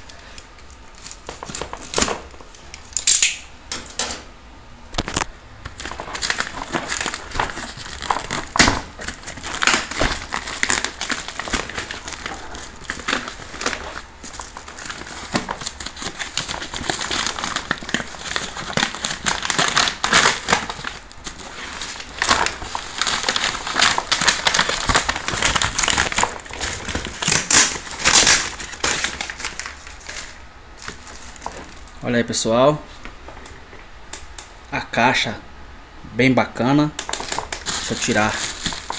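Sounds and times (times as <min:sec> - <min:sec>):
paper and plastic crinkling: 0:00.0 - 0:02.7, 0:05.0 - 0:32.2, 0:37.0 - 0:38.9.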